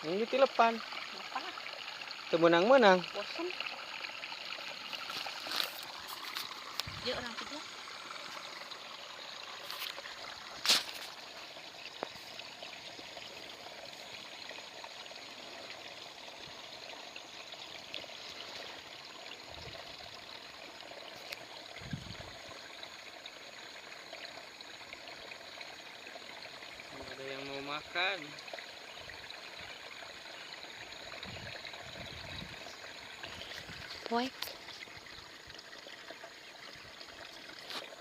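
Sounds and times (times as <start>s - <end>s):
stream trickling: 0.0s - 38.0s.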